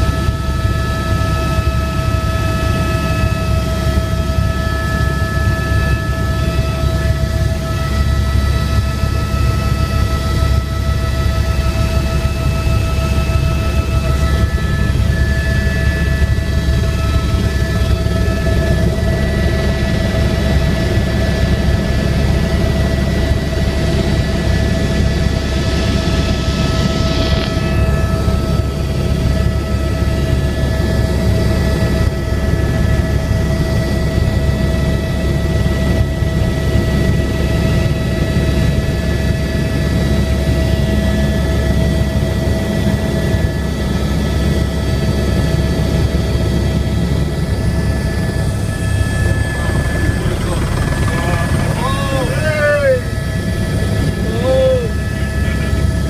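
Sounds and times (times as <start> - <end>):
helicopter turbine whine: 0.0 - 56.0
rotor and airflow rumble: 0.0 - 56.0.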